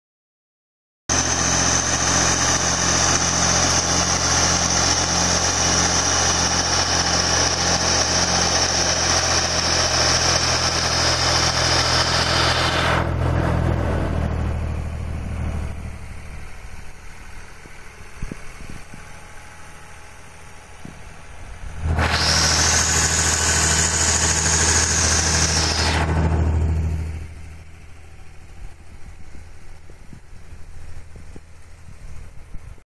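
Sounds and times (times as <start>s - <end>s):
high whine: 1.1s - 32.8s
tractor engine running: 1.1s - 32.8s.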